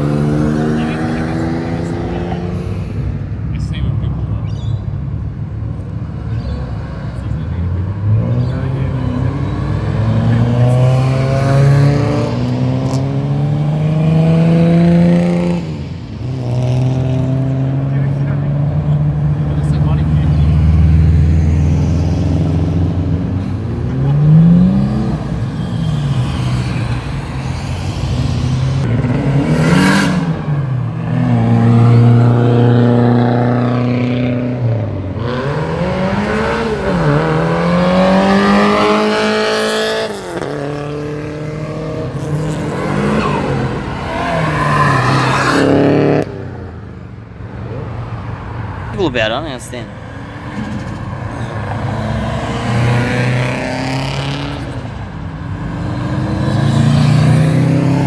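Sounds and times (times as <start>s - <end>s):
car engines idling and revving: 0.0s - 58.0s.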